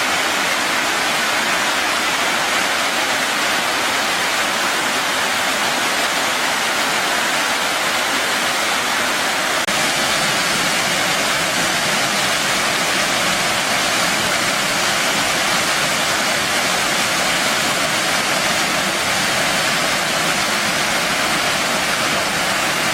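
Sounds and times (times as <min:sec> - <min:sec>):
stream rushing over rocks: 0:00.0 - 0:22.9.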